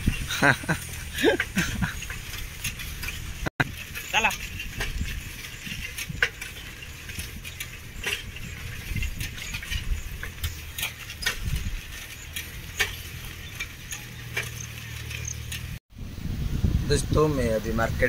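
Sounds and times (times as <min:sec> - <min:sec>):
sharp clicks and rattles: 0:00.0 - 0:15.8
low wind: 0:00.0 - 0:18.0
road rumble: 0:00.0 - 0:18.0.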